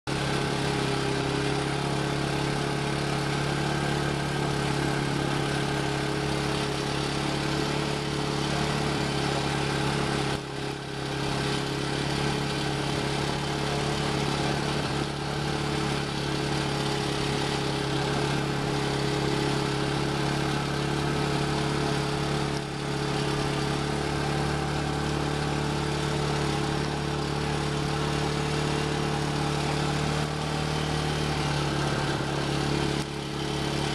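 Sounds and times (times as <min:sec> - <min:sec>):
small engine running steadily: 0:00.0 - 0:33.9.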